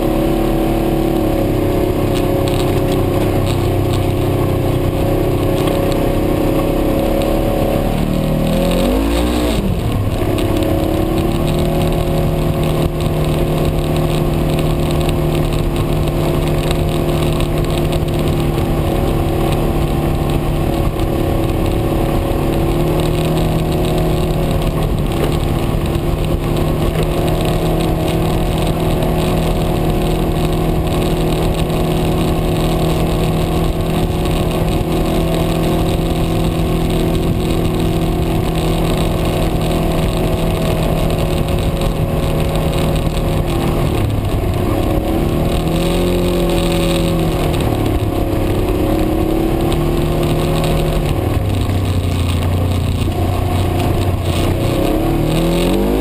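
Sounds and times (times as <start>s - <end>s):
utv engine running: 0.0s - 56.0s.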